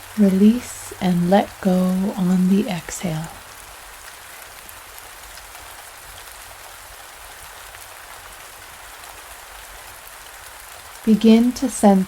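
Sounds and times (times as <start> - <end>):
rain hissing and pattering: 0.0 - 12.0.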